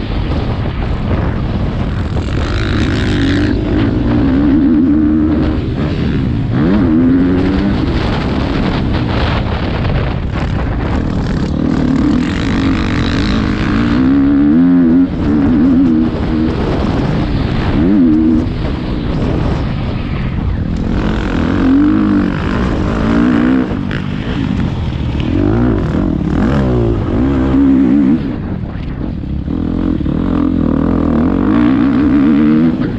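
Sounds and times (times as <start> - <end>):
motocross bike engine revving: 1.7 - 9.6, 10.3 - 19.6, 20.6 - 28.7, 29.3 - 32.9.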